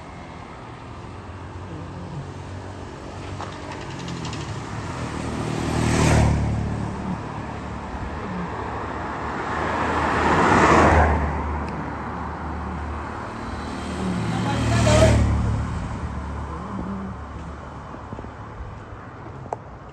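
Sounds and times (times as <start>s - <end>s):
low engine hum: 0.0s - 19.8s
vehicles passing close by: 0.0s - 19.9s.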